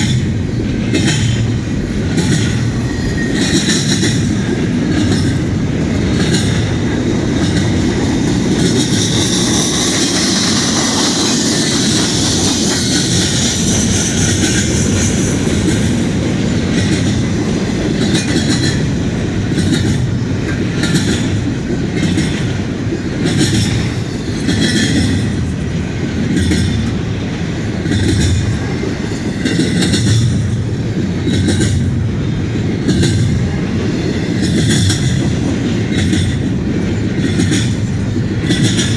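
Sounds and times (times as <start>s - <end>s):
freight train cars rumbling: 0.0s - 38.9s.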